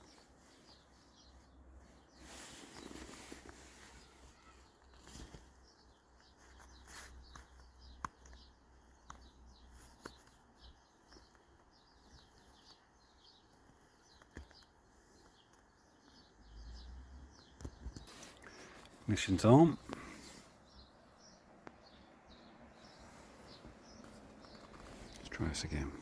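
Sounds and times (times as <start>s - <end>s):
faint birdsong chirps: 0.0s - 26.0s.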